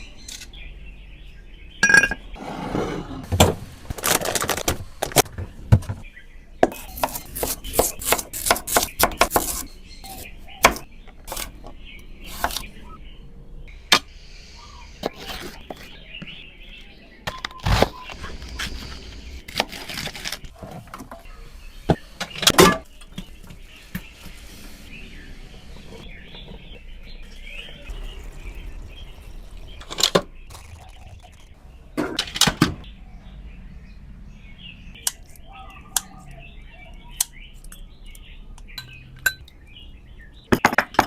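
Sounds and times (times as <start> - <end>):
small birds chirping: 0.0 - 3.1, 5.3 - 41.0.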